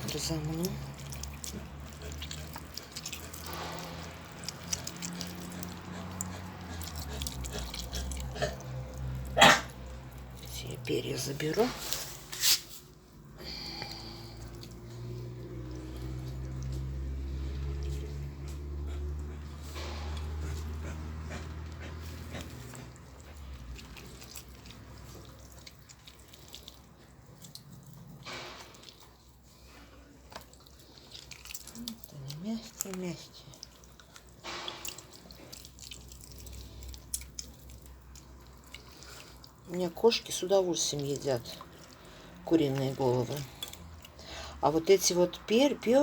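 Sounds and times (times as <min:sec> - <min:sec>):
wet squelches of mashing by hand: 0:00.0 - 0:46.0.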